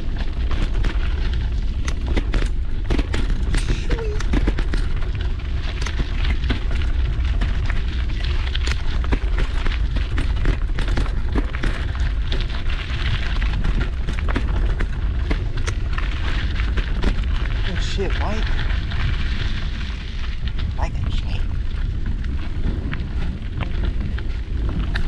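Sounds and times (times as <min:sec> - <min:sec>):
bike clicking and rattling: 0:00.0 - 0:25.0
wind buffeting microphone: 0:00.0 - 0:25.0.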